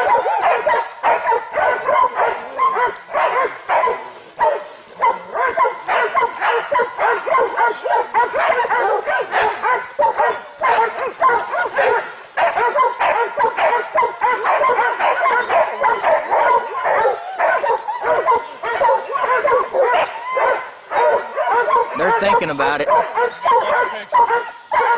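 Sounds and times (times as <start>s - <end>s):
dogs barking and yelping: 0.0s - 24.9s.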